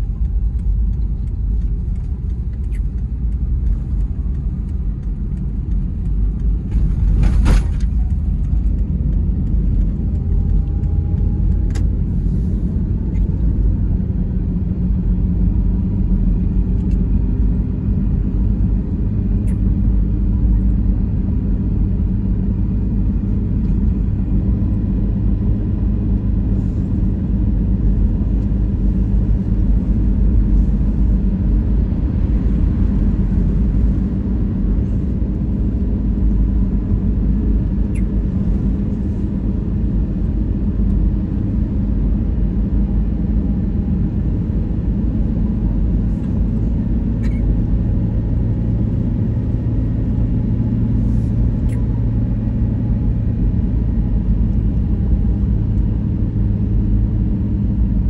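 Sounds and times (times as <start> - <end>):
low engine hum: 0.0 - 58.0
road rumble and tyre noise: 0.0 - 58.0.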